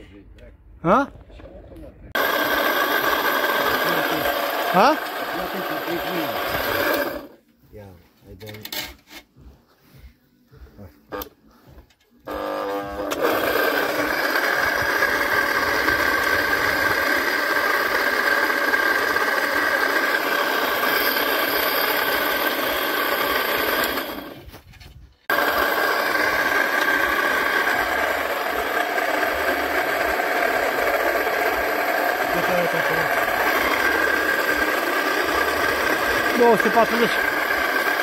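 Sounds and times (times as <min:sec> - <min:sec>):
electric motor turning cable drum: 0:02.1 - 0:07.4, 0:11.1 - 0:24.6, 0:25.2 - 0:38.0.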